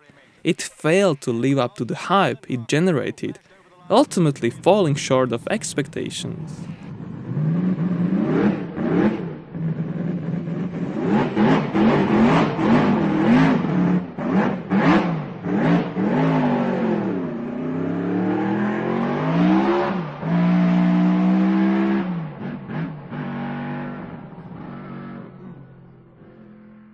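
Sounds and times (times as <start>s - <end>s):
racing engine revving: 3.9s - 26.9s.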